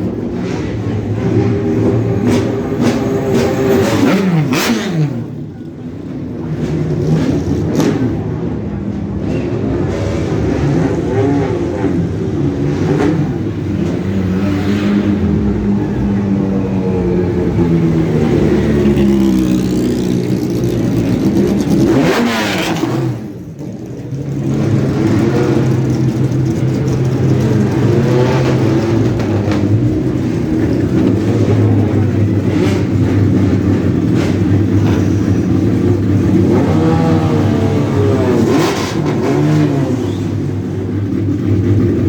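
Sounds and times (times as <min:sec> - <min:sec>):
sports car engines revving: 0:00.0 - 0:42.0.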